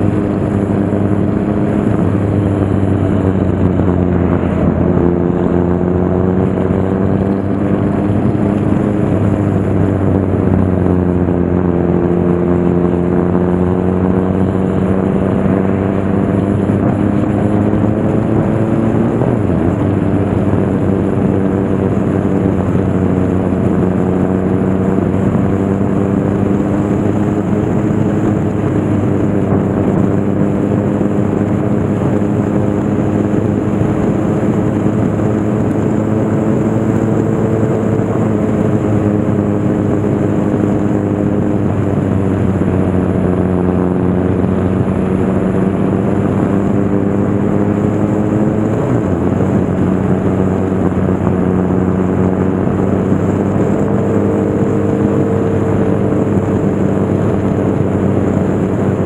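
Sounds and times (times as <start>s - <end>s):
motorcycle engine running: 0.0s - 59.0s
wind rushing noise: 0.0s - 59.0s.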